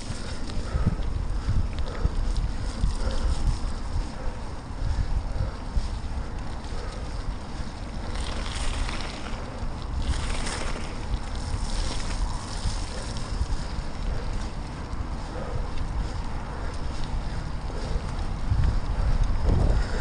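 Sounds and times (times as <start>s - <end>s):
tyres rolling on wet gravel: 0.0s - 20.0s
wind buffeting microphone: 0.0s - 20.0s.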